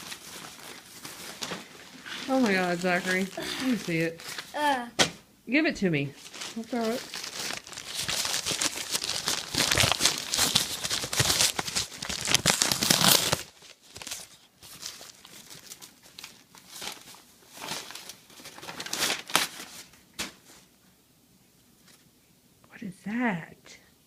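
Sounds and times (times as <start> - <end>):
wrapping paper tearing and crumpling: 0.0 - 4.8, 6.2 - 20.6.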